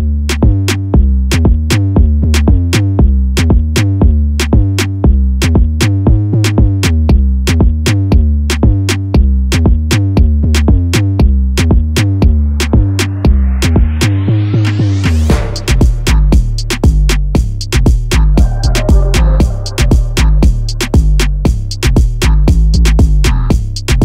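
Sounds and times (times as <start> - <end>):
electronic music with drum-machine beat: 0.0 - 24.0.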